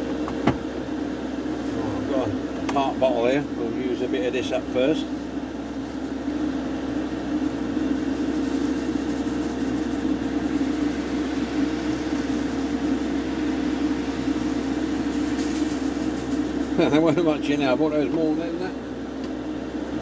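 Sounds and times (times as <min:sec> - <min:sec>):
extractor fan whirring: 0:00.0 - 0:20.0.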